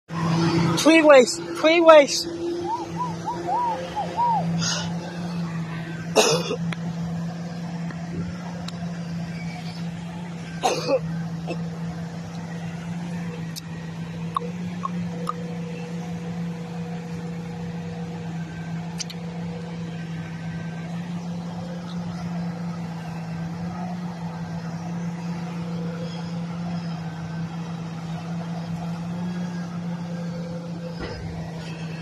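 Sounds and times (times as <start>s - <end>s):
diesel truck engine droning: 0.1s - 32.0s.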